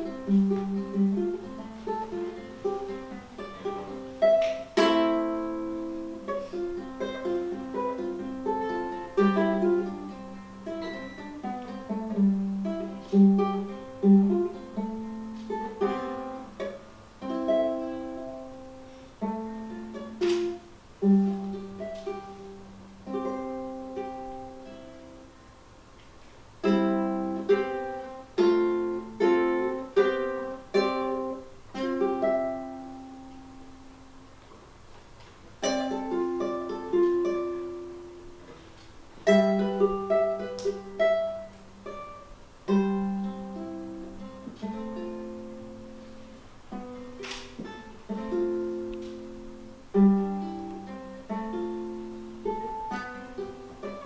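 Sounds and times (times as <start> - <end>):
ukulele playing slow melody: 0.0 - 54.0.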